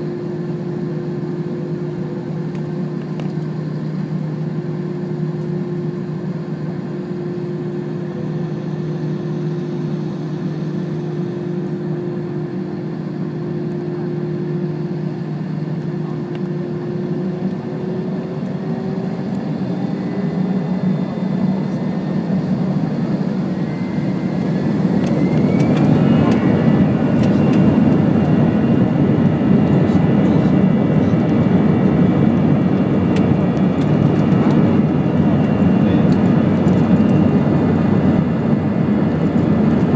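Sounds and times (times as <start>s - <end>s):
jet engines spooling up: 0.1s - 39.9s.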